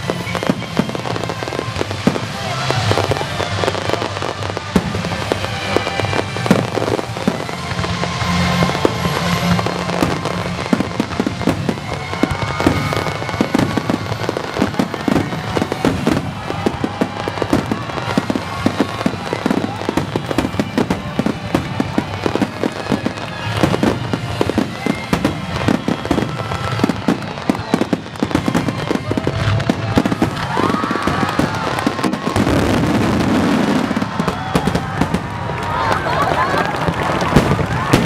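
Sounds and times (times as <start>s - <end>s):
fireworks bursting with bangs and crackle: 0.0s - 38.0s
music playing: 0.0s - 38.0s.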